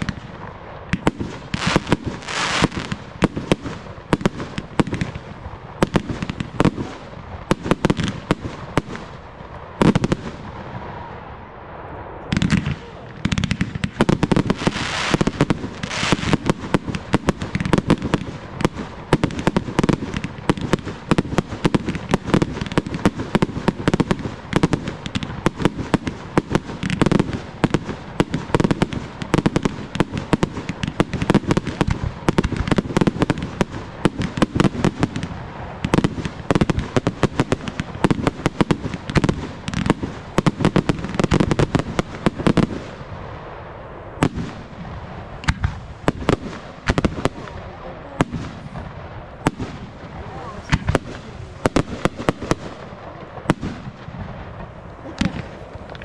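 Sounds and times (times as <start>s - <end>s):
fireworks bangs and cracks: 0.0s - 56.0s.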